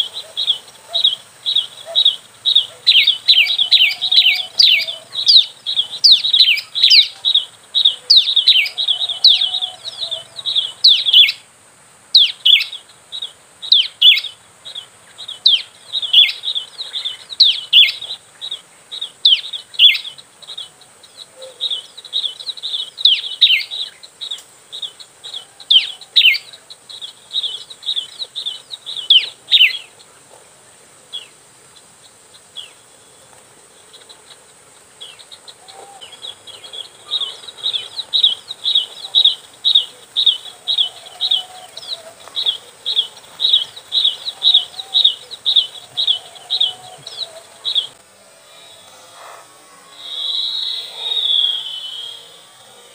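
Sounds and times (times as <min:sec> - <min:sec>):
bird chirping: 0:00.0 - 0:11.5, 0:12.1 - 0:52.9.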